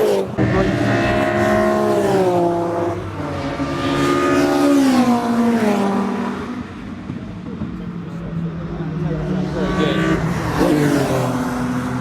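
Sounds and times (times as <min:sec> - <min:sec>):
race cars passing at high revs: 0:00.0 - 0:12.0.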